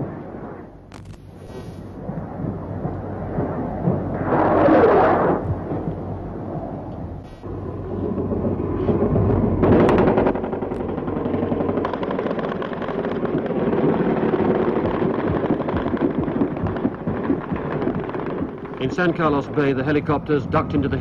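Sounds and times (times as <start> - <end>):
low rumble: 0.1 - 21.0.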